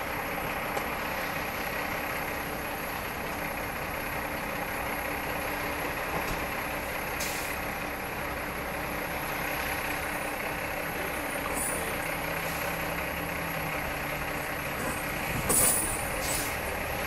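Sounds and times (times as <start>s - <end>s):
truck and car engines: 0.0s - 17.0s.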